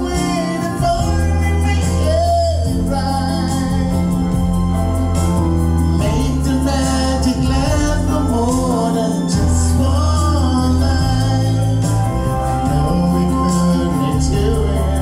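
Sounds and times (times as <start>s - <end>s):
man singing into microphone: 0.0s - 4.4s, 5.8s - 15.0s
backing track with bass and chords: 0.0s - 15.0s.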